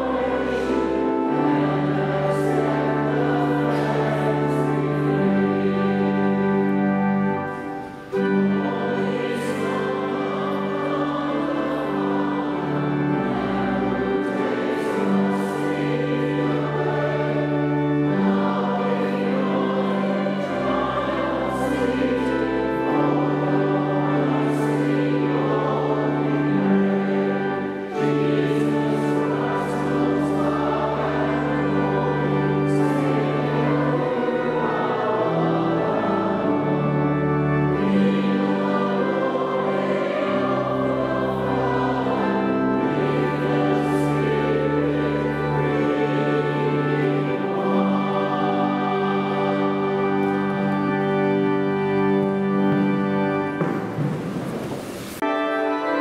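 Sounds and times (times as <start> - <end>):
choir singing: 0.0 - 56.0
pipe organ bass notes: 0.0 - 56.0.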